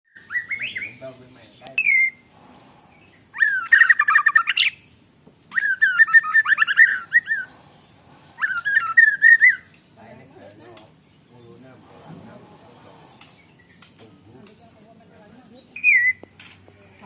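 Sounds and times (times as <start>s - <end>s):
bird singing rolling trills: 0.1s - 17.0s.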